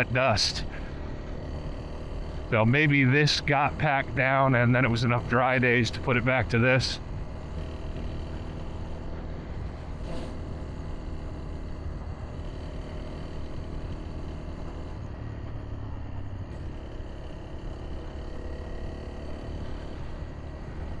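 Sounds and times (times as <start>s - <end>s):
motorcycle engine cruising: 0.0s - 21.0s
wind and tyre noise: 0.0s - 21.0s.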